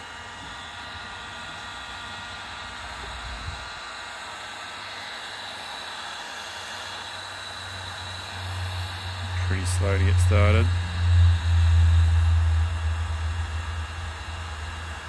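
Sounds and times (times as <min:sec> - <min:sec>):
heat gun blower hissing: 0:00.0 - 0:15.0.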